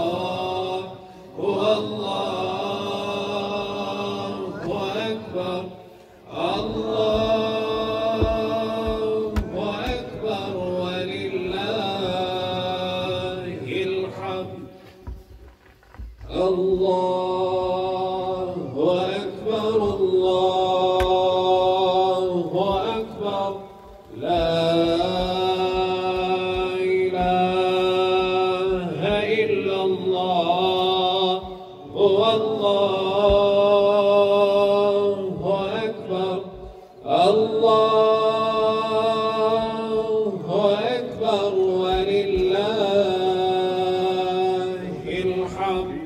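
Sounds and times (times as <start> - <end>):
man chanting religious recitation: 0.0 - 15.2, 16.3 - 46.0.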